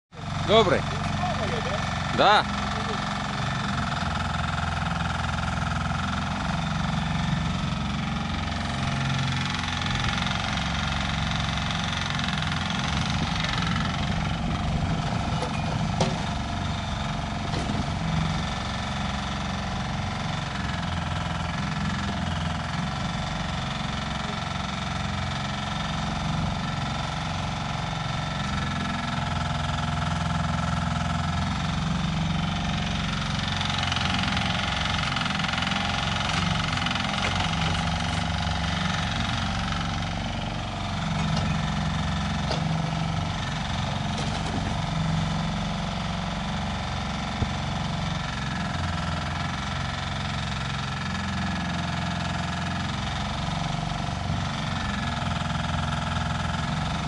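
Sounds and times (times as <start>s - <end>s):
excavator engine running: 0.1s - 57.0s.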